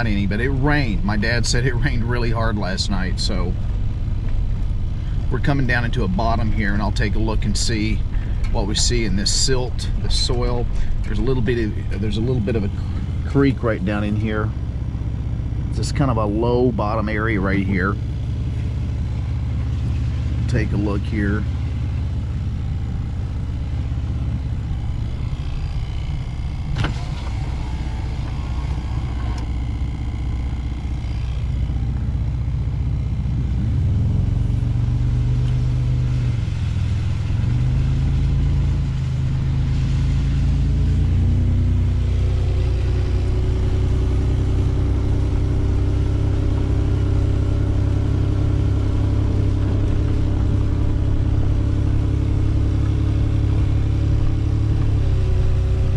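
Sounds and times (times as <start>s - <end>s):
tyres on wet dirt road: 0.0s - 55.9s
vehicle engine humming: 0.0s - 55.9s.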